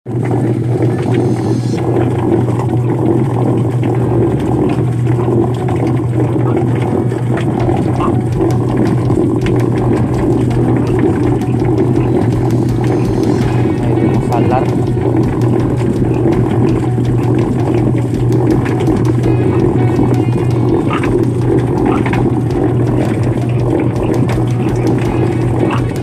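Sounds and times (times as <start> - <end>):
motor hum: 0.1 - 26.0
churning rattle: 0.3 - 26.0.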